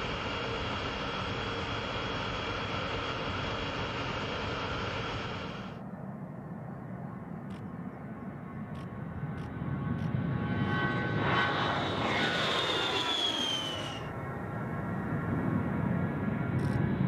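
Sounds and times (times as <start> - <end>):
jet engines with high whine: 0.0 - 17.0.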